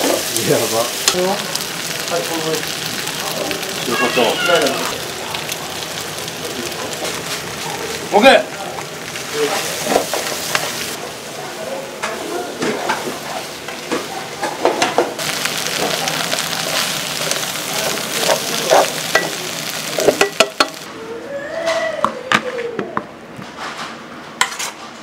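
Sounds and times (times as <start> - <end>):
food sizzling in a pan: 0.0 - 20.9.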